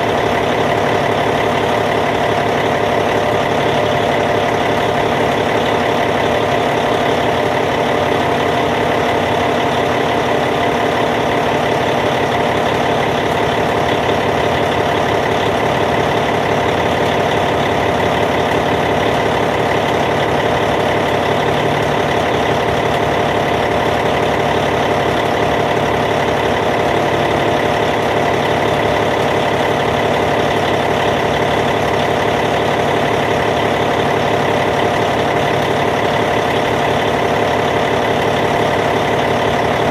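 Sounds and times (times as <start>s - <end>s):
bulldozer diesel engine idling: 0.0s - 39.9s.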